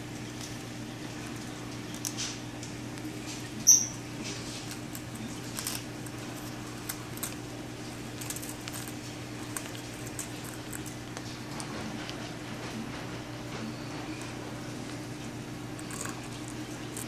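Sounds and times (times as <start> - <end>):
steady low hum: 0.0 - 17.0
parrot crunching cracker: 0.2 - 17.0.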